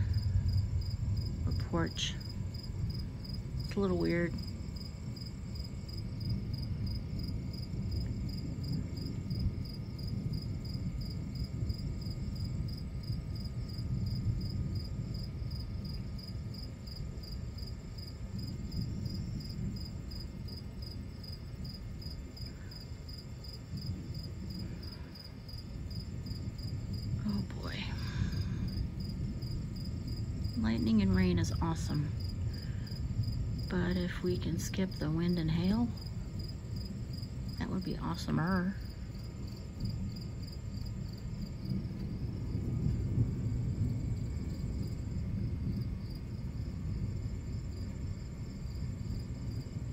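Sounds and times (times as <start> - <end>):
crickets chirping: 0.0 - 49.9
distant thunder rumbling: 0.0 - 49.9.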